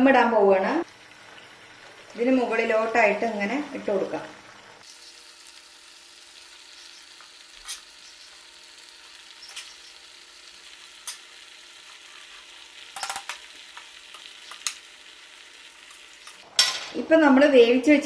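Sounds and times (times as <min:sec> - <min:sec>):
chicken sizzling in oil: 0:00.0 - 0:16.5.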